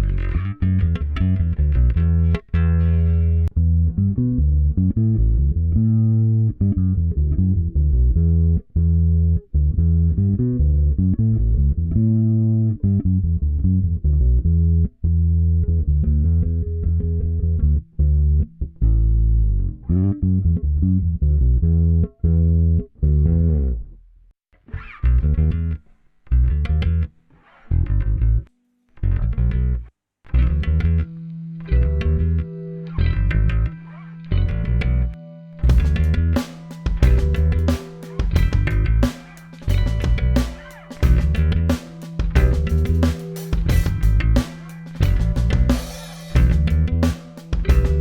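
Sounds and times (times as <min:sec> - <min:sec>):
electric bass guitar plucked: 0:00.0 - 0:48.0.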